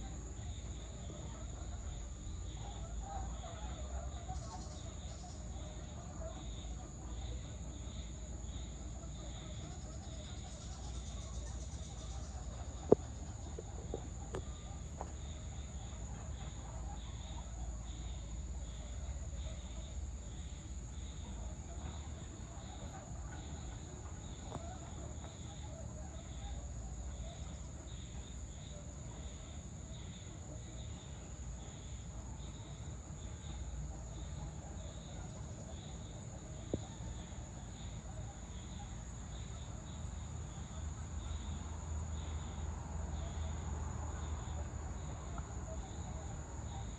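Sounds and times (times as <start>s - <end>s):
insects buzzing and chirping: 0.0s - 46.9s.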